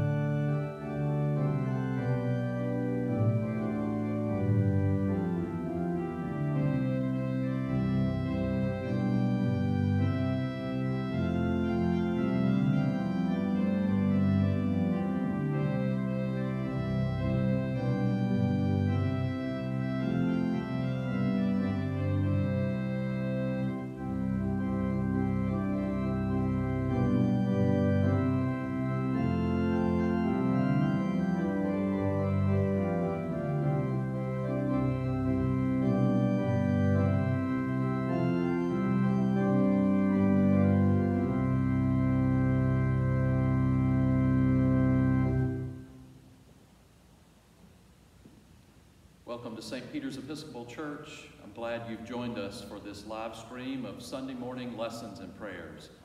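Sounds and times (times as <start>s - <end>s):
church organ chords: 0.0s - 46.3s, 49.3s - 56.0s.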